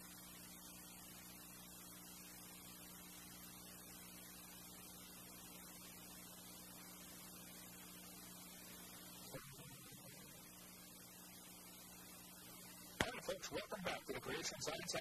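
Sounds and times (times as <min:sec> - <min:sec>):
electrical hum: 0:00.0 - 0:15.0
faint hiss: 0:00.0 - 0:15.0.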